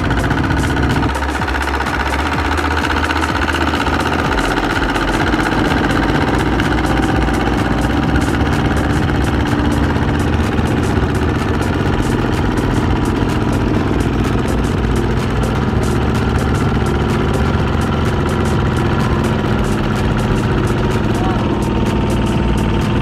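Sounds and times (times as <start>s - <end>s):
diesel tractor engine knocking: 0.0s - 23.0s.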